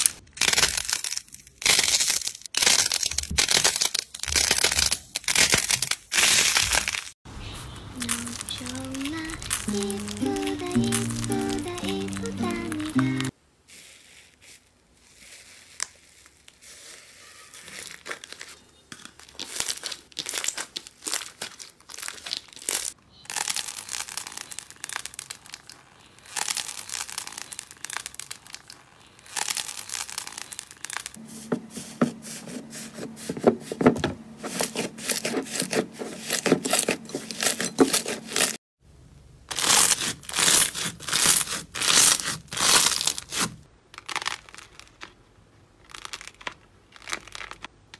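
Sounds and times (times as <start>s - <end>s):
slime crackling and crunching: 0.0s - 7.2s, 8.0s - 31.2s, 34.4s - 38.6s, 39.5s - 47.7s.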